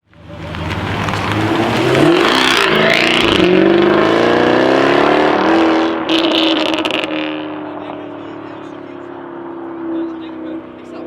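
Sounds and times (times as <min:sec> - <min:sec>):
car engine accelerating hard: 0:00.1 - 0:11.0.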